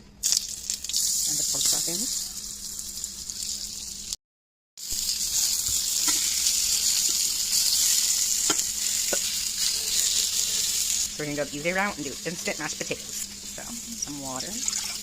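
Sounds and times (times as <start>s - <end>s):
meat sizzling in oil: 0.2s - 4.2s, 4.8s - 15.0s.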